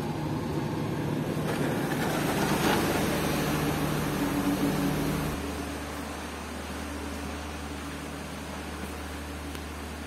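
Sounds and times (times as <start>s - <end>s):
train machinery hum: 0.0s - 10.0s.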